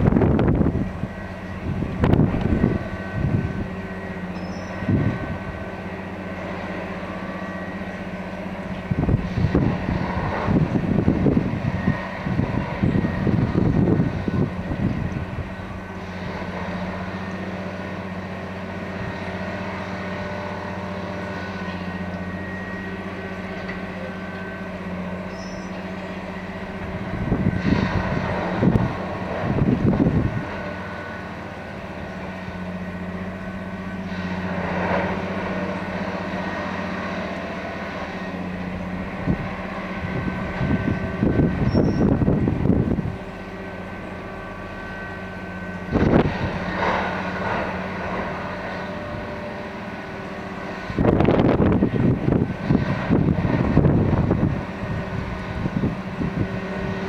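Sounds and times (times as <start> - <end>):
machine engine low hum: 0.0 - 57.0.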